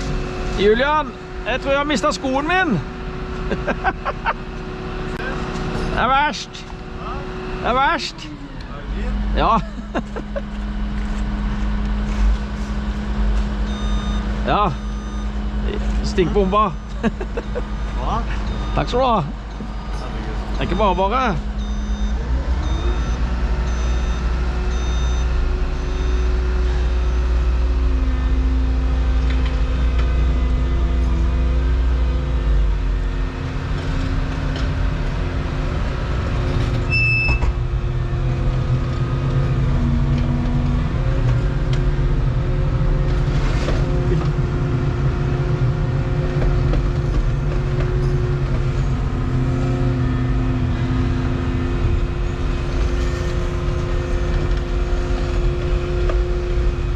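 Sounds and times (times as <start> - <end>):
deep rumble: 0.0 - 56.9
excavator diesel engine drone: 0.0 - 56.9.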